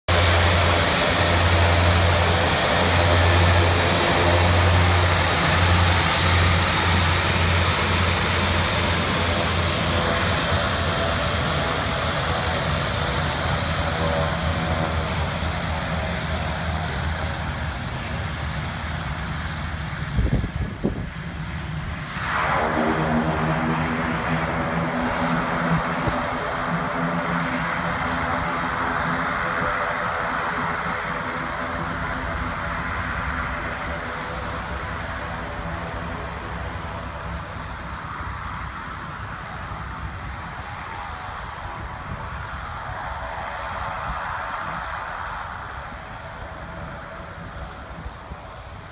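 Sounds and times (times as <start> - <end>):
turboprop engines droning: 0.0 - 48.9.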